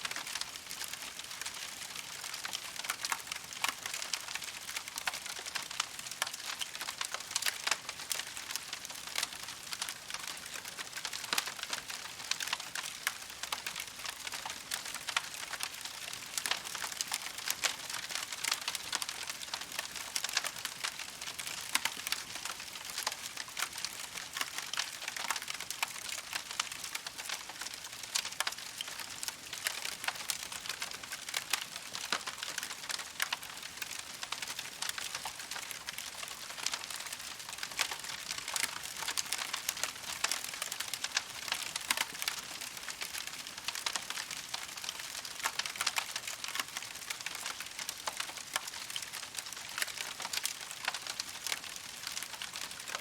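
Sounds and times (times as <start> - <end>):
campfire crackling: 0.1 - 53.0.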